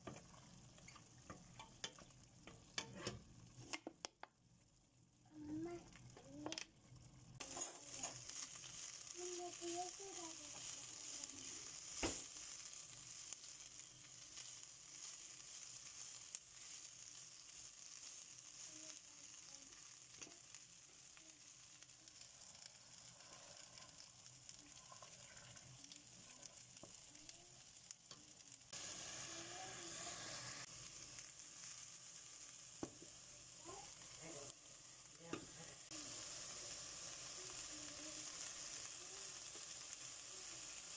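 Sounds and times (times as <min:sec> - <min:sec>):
okra sizzling in a pan: 0:00.0 - 0:40.9.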